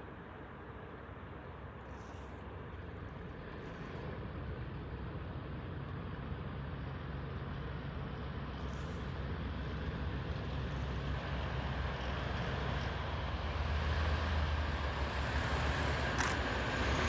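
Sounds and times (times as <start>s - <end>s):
distant diesel locomotives rumbling: 0.0s - 17.0s.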